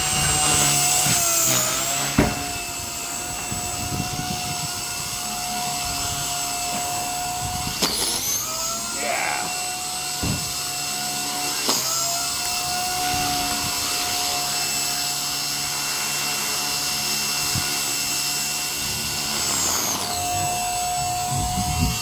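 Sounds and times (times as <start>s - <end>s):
toy helicopter rotors whining: 0.0s - 22.0s.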